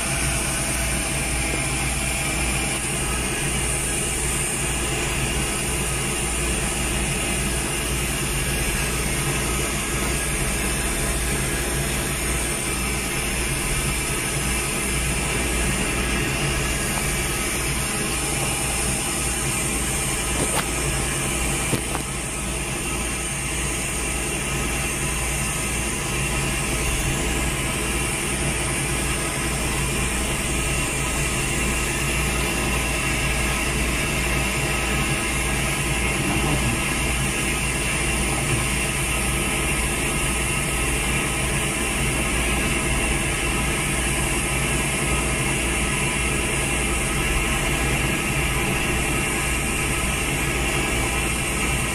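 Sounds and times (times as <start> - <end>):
machine hum and hiss: 0.0 - 51.9.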